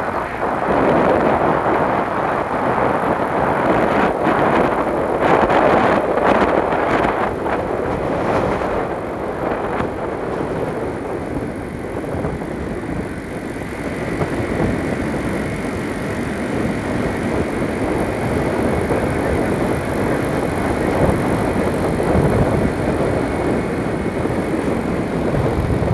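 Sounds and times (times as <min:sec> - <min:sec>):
road and wind noise: 0:00.0 - 0:25.9.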